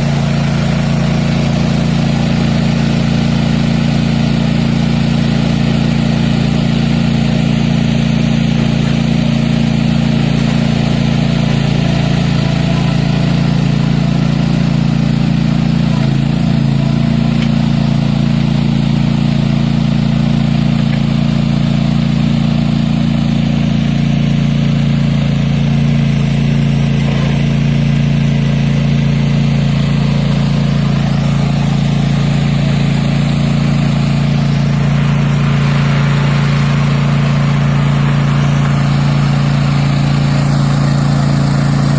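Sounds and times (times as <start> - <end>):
mower engine running: 0.0 - 41.9.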